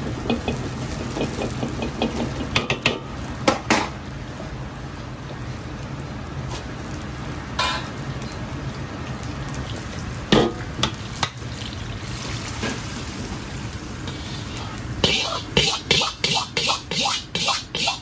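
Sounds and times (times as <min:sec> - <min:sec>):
food sizzling in hot oil: 0:00.0 - 0:04.2, 0:05.4 - 0:18.0.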